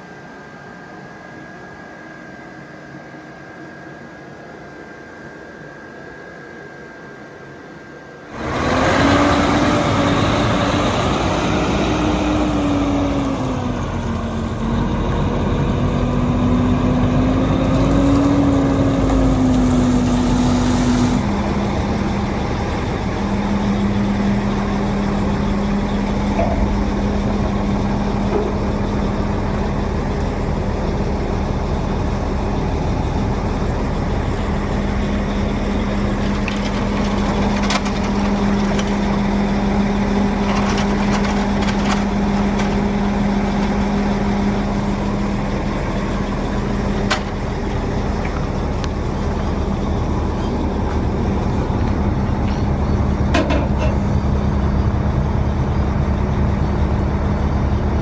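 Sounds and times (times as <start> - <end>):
vehicle engine humming: 8.3 - 58.0.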